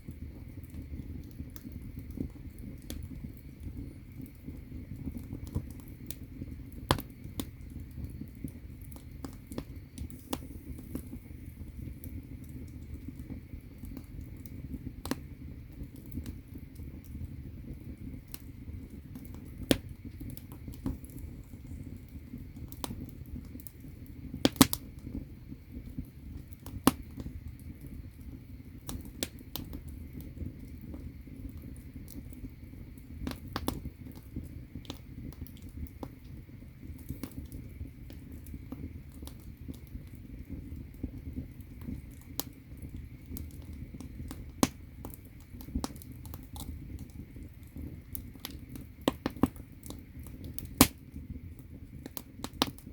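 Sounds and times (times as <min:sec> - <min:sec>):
fire rumbling: 0:00.0 - 0:52.9
firewood crackling and popping: 0:00.0 - 0:52.9.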